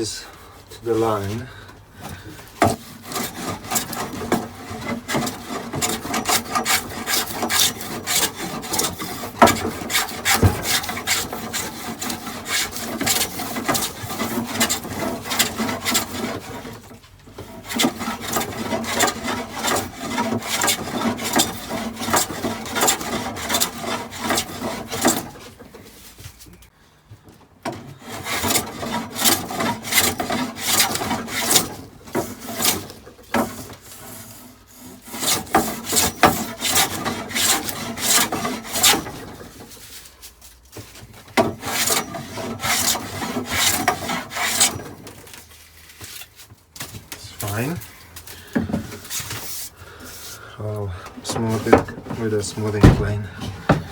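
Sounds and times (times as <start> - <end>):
hand plane shaving wood: 2.0 - 26.2, 27.7 - 53.9.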